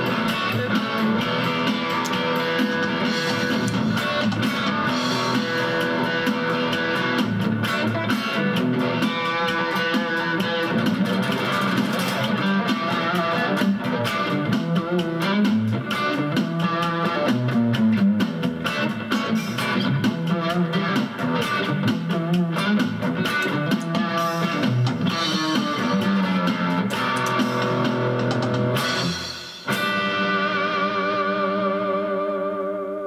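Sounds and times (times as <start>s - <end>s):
electric guitar playing: 0.0s - 33.0s.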